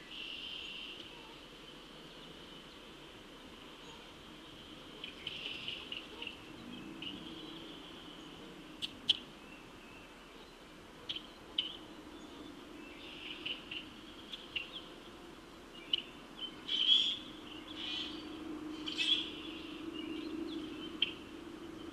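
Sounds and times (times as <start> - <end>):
low steady hum: 0.0 - 21.9
small birds chirping: 0.0 - 21.9.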